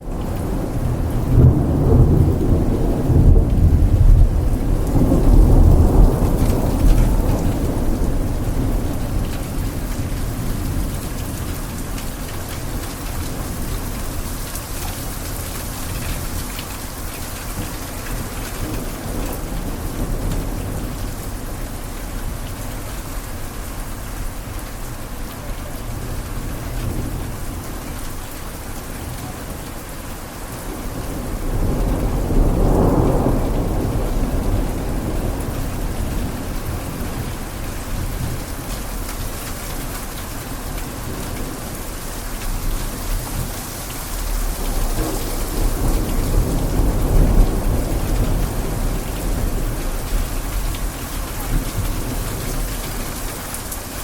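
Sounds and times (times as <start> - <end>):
heavy rain falling: 0.0 - 54.0
low rumble of thunder: 0.0 - 54.0.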